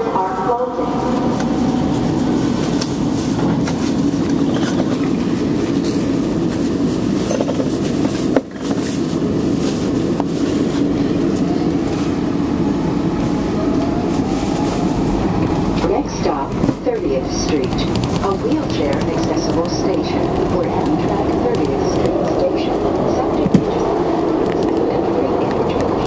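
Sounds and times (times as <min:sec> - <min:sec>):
train wheels rumbling on rail: 0:00.9 - 0:26.0.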